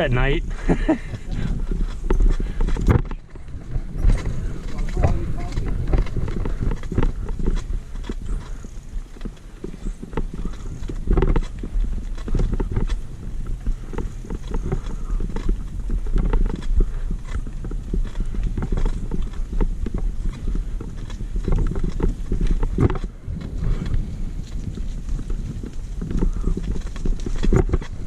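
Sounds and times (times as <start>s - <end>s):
mountain bike rattling and clattering: 0.0s - 28.0s.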